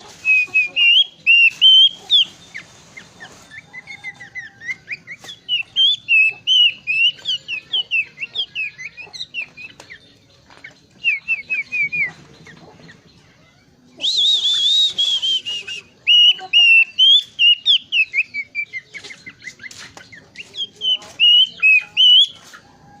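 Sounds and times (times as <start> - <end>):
songbird singing whistled notes: 0.0 - 23.0.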